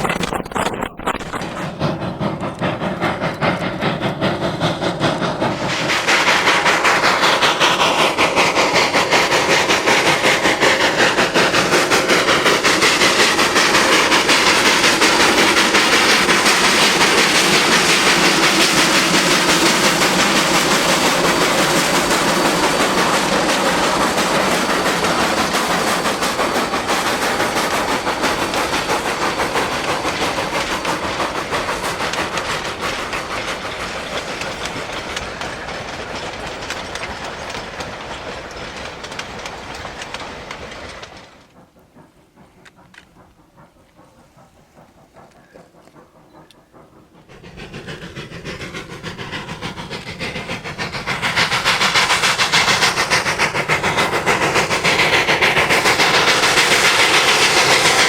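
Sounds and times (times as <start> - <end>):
steam locomotive exhaust beating: 0.0 - 58.0
train cars rolling: 0.0 - 58.0.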